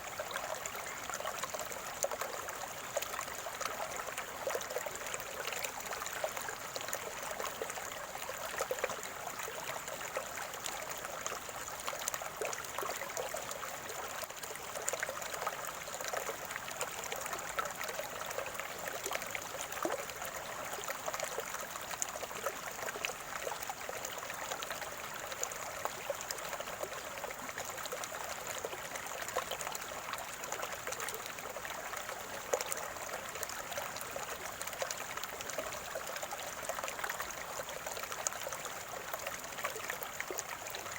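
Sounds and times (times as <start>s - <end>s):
stream trickling and gurgling: 0.0s - 40.9s.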